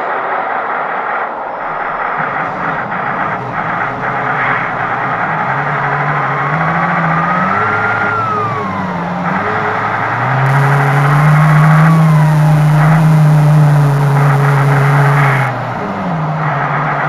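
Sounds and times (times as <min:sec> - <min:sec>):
cooling fan whine: 0:00.0 - 0:17.0
simulated diesel engine revving: 0:01.6 - 0:17.0.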